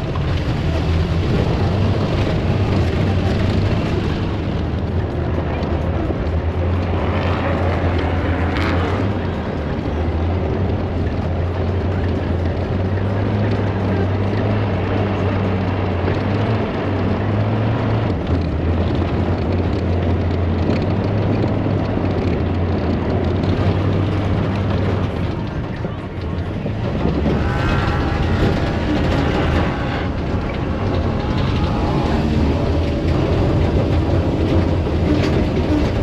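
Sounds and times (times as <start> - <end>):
bulldozer engine droning: 0.0 - 36.0.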